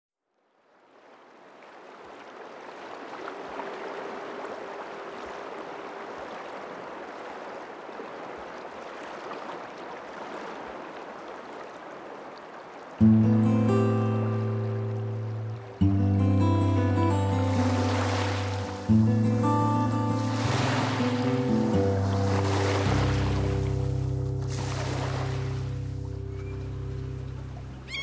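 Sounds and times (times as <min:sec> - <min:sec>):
water rushing: 0:00.6 - 0:28.0.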